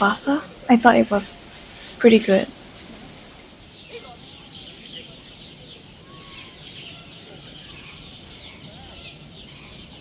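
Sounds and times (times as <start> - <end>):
birds chirping in chorus: 0.0 - 10.0.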